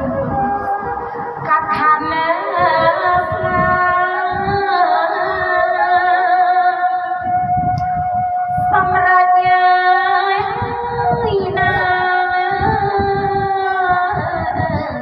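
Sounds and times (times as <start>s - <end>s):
woman singing into a microphone: 0.0s - 15.0s.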